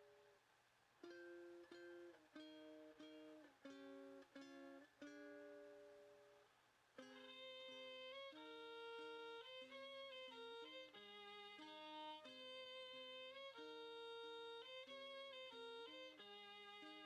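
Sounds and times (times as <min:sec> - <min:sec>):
plucked string chords: 0:01.0 - 0:17.0.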